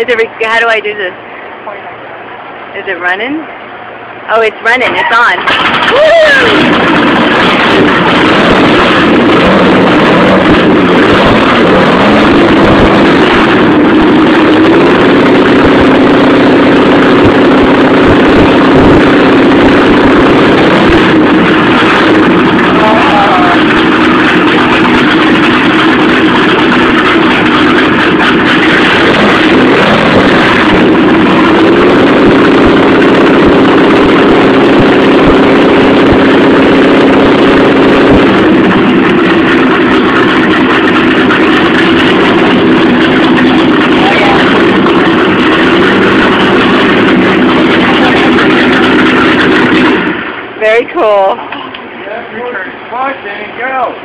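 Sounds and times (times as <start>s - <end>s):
race car engine running loud: 4.9s - 51.3s.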